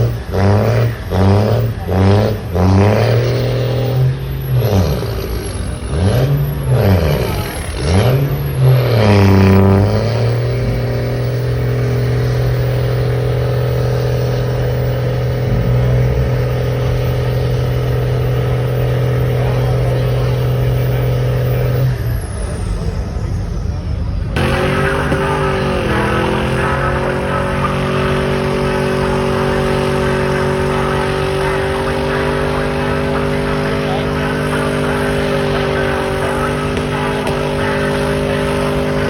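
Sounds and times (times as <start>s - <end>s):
truck engine revving: 0.0s - 39.0s.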